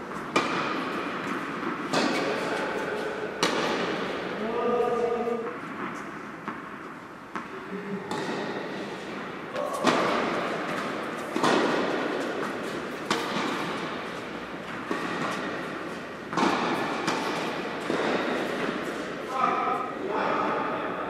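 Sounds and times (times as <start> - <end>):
tennis rackets hitting ball: 0.0 - 19.9
echo in large hall: 0.0 - 21.0.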